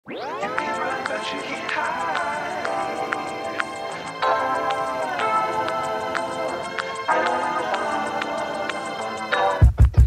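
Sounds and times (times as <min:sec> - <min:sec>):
held chords: 0:00.1 - 0:10.0
steady beat: 0:00.3 - 0:10.0.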